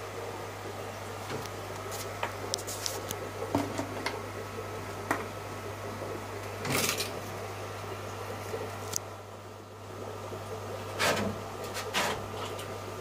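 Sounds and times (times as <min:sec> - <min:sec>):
aquarium filter humming: 0:00.0 - 0:13.0.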